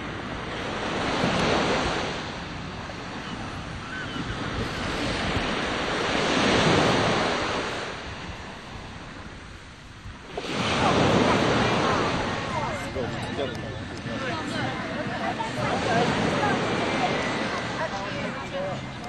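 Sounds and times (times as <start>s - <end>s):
surf rushing: 0.0s - 19.0s
wind: 0.0s - 19.0s.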